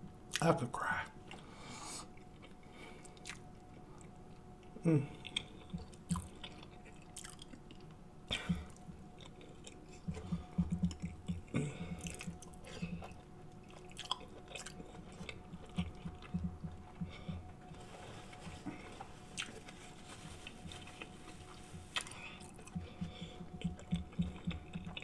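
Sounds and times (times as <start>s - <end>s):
chewing with lip-smacking: 2.1s - 17.8s, 18.4s - 19.8s, 20.4s - 25.0s.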